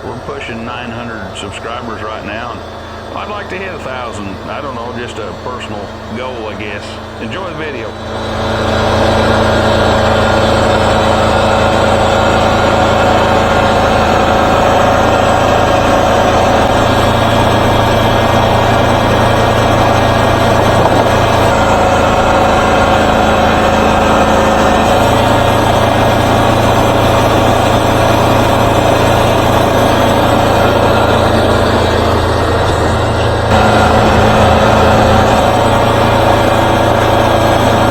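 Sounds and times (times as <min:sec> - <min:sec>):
sawmill engine running: 0:00.0 - 0:37.9.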